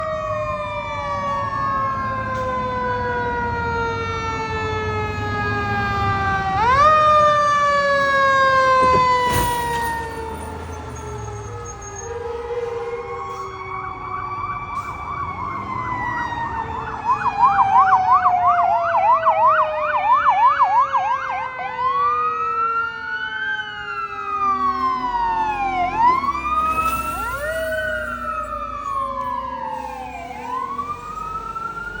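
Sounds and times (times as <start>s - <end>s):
siren winding down: 0.0s - 32.0s
siren wailing and yelping: 5.4s - 32.0s.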